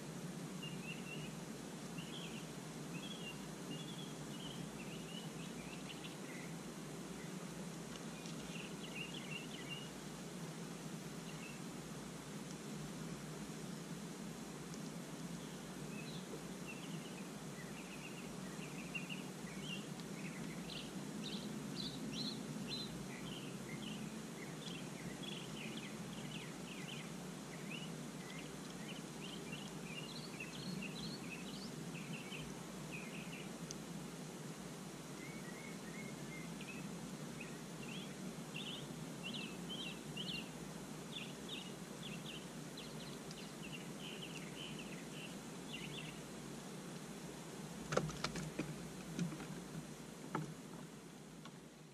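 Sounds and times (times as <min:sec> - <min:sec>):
outdoor background hiss: 0:00.0 - 0:51.9
small birds chirping: 0:00.0 - 0:51.9.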